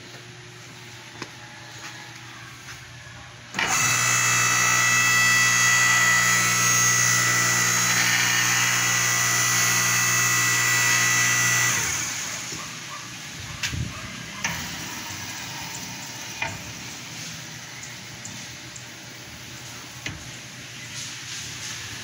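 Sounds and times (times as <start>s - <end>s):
electric motor and hydraulic pump: 0.0s - 22.0s.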